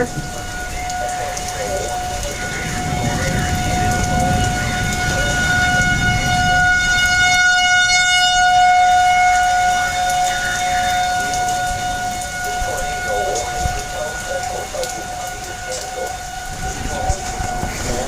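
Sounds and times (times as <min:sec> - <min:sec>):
tornado siren steady tone: 0:00.0 - 0:18.0.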